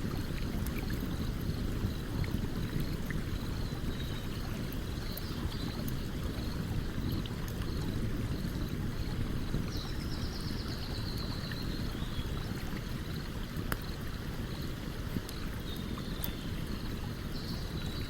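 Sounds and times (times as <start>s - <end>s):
campfire crackles: 0.1s - 10.1s, 11.1s - 17.2s.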